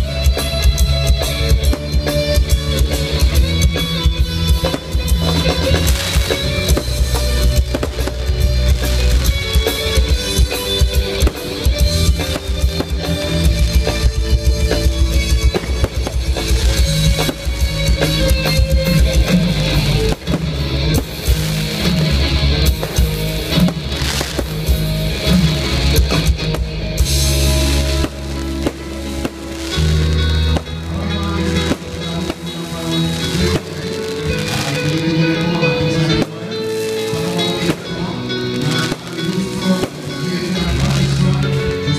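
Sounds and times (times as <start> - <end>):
fireworks bursting and crackling: 0.0 - 41.9
loud music with drums and guitar: 0.0 - 41.9.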